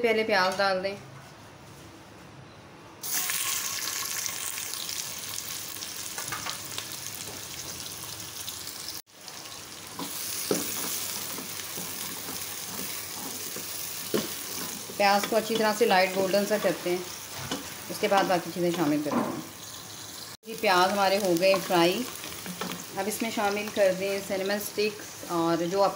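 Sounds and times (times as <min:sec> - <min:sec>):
onions sizzling in hot oil: 0:03.0 - 0:25.9.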